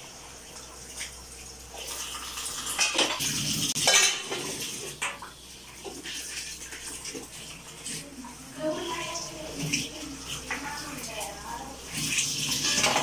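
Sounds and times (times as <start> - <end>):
running tap water: 0.0 - 13.0
dishes clattering in a metal sink: 1.8 - 13.0.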